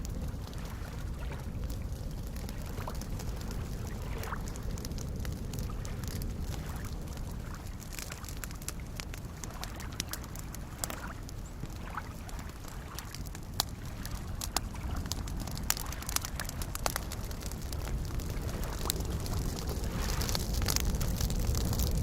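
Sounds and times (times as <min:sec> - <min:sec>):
campfire crackling and popping: 0:00.0 - 0:22.0
lake waves lapping: 0:00.2 - 0:21.7.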